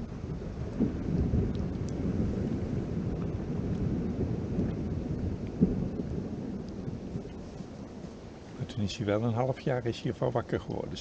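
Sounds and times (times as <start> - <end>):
ice rumbling and crackling: 0.0 - 11.0.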